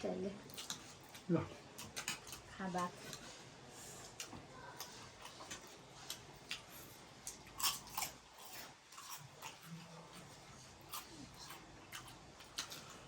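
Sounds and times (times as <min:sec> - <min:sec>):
person chewing noodles: 0:00.4 - 0:13.0.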